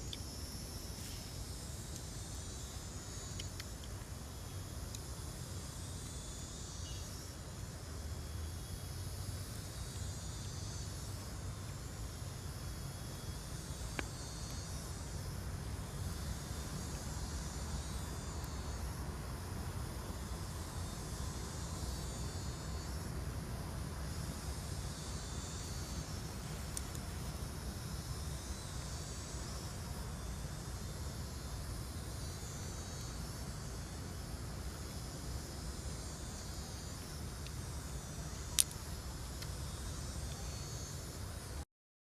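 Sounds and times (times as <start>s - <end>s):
faint high hiss: 0.0s - 41.6s.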